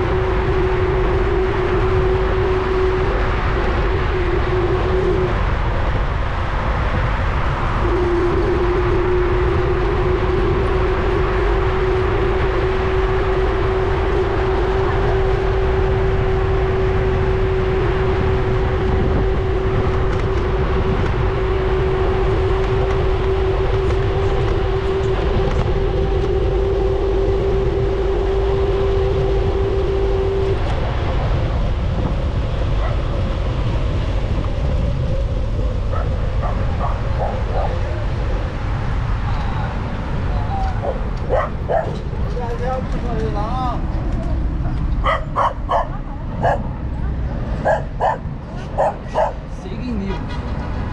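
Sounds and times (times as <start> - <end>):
steady mid-pitched whine: 0.0 - 50.2
wind rumbling on microphone: 0.0 - 50.9.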